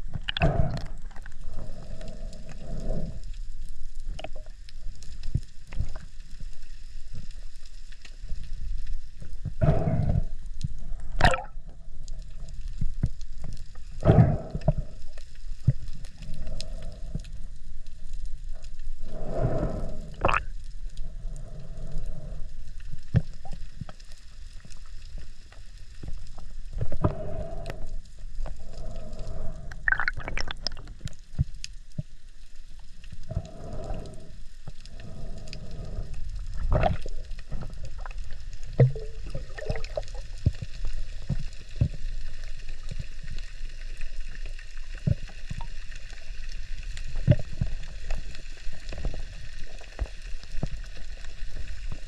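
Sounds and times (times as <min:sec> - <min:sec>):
muffled underwater water movement: 0:00.0 - 0:52.0.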